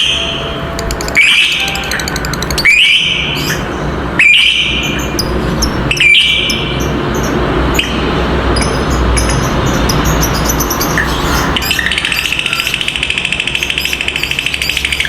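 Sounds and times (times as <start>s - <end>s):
steady low hum: 0.0s - 13.4s
high bird chirps: 0.0s - 15.0s
shrill bird calls: 0.0s - 15.0s.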